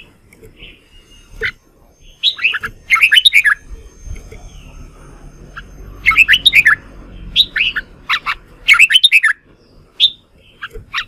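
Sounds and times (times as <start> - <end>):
bulbul singing: 0.0 - 11.0.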